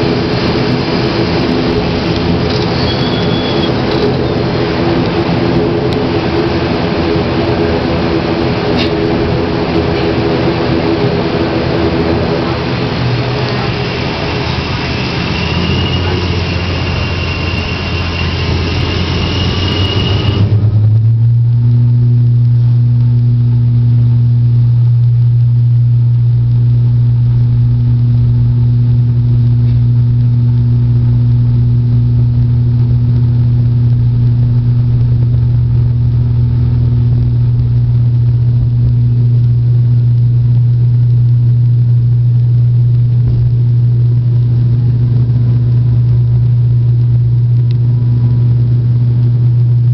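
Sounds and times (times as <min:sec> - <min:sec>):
deep propeller drone: 0:00.0 - 0:49.9
rushing noise with high whine: 0:00.0 - 0:49.9.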